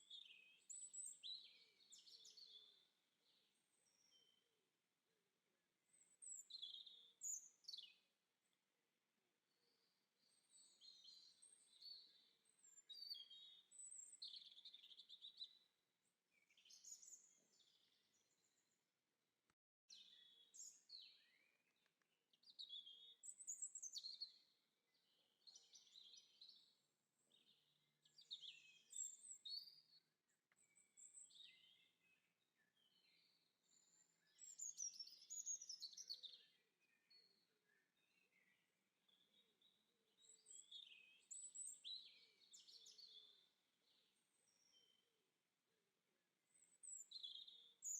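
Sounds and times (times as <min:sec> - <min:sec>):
songbird chirping: 0:00.0 - 0:04.7, 0:05.8 - 0:08.6, 0:09.5 - 0:18.8, 0:19.9 - 0:45.2, 0:46.5 - 0:47.9.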